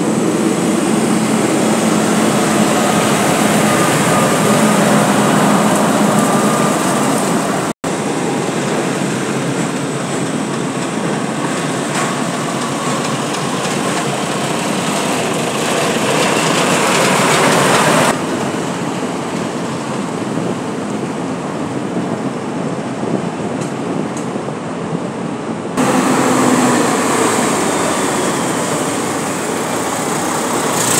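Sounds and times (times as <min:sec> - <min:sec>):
heavy trucks driving past: 0:00.0 - 0:22.0, 0:25.8 - 0:30.9.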